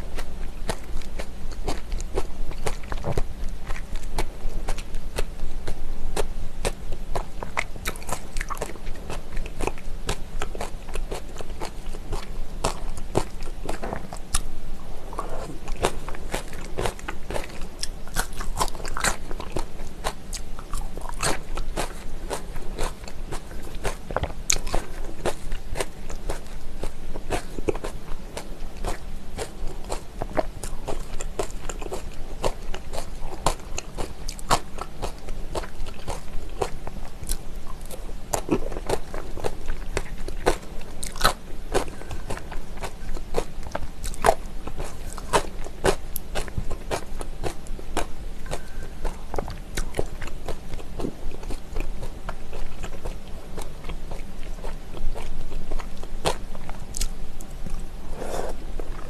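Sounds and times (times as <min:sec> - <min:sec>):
chewing and crunching: 0:00.0 - 0:59.0.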